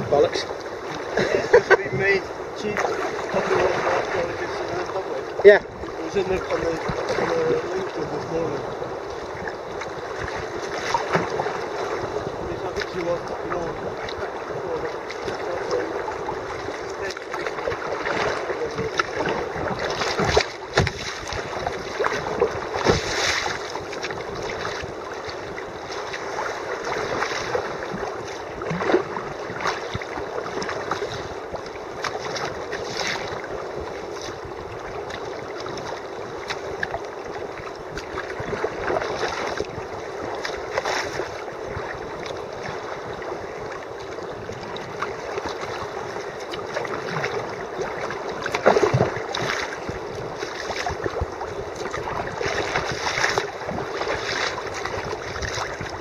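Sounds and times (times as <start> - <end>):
water slapping kayak hull: 0.0 - 56.0
waves splashing on bow: 0.0 - 56.0.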